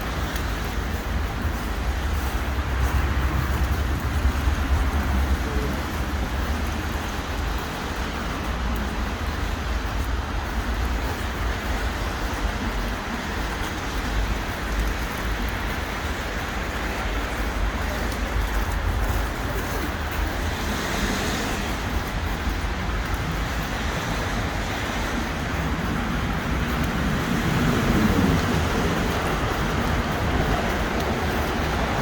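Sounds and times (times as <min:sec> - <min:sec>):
passing cars rumbling: 0:00.0 - 0:32.0.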